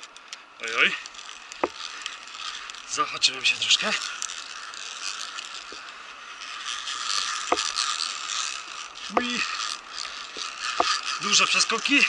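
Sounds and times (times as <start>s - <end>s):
metal gear rattling on steel cable: 0.0s - 12.0s.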